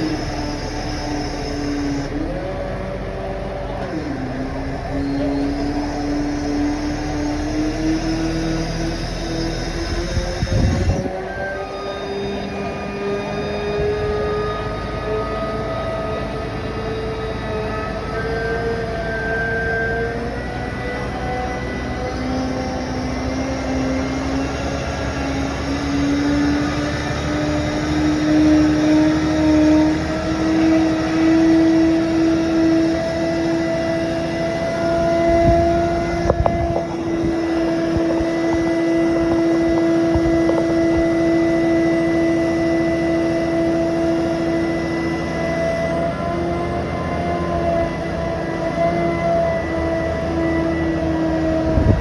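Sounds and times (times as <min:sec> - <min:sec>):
thin steady whine: 0:00.0 - 0:02.4, 0:03.0 - 0:46.5
fire truck engine humming: 0:00.0 - 0:52.0.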